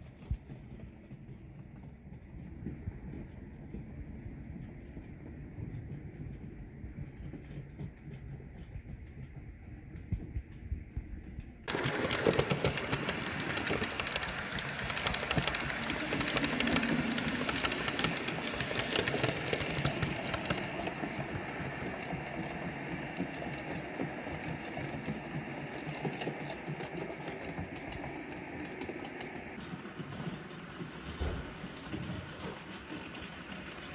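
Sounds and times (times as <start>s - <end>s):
model train whirring and clicking: 0.0s - 33.9s.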